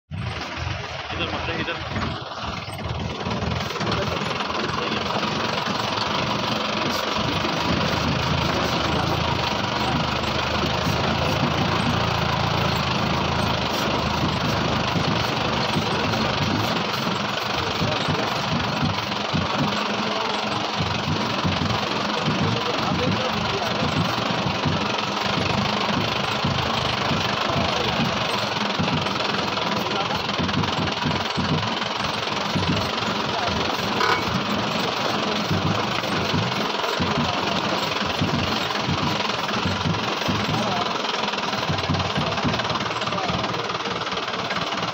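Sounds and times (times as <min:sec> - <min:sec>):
jeep engine at low revs: 0:00.1 - 0:44.9
tyres on loose stones: 0:00.2 - 0:44.9.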